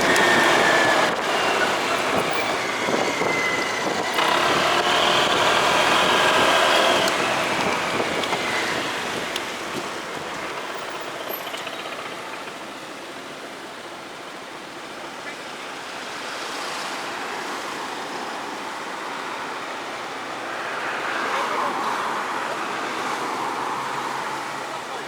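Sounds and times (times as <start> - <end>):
road traffic rushing: 0.0 - 25.0.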